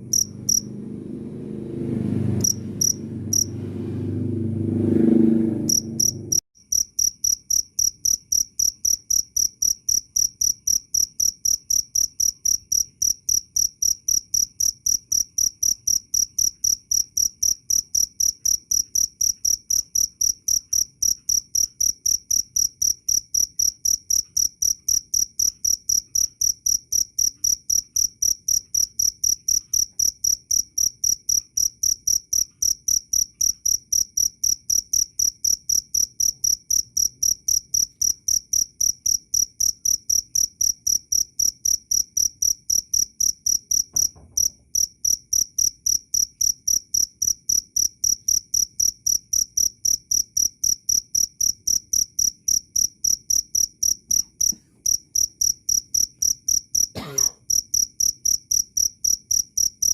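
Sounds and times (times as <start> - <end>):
cricket chirping: 0.0 - 0.7, 2.4 - 3.6, 5.7 - 59.9.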